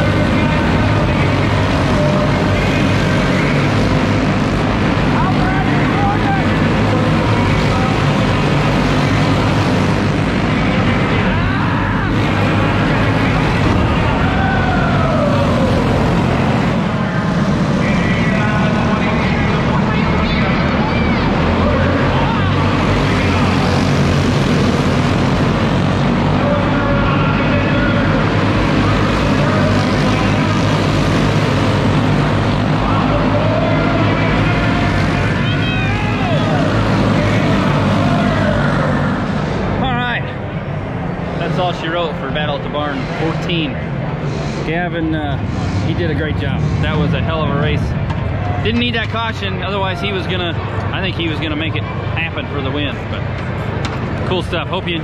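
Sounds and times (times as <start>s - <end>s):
go-kart engines droning: 0.0s - 55.0s.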